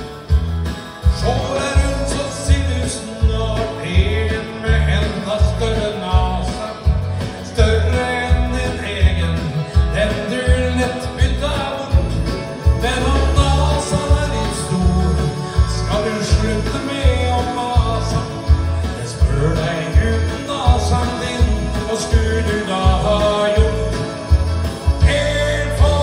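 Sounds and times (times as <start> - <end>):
backing track with heavy bass: 0.0 - 26.0
man singing country song: 0.0 - 26.0.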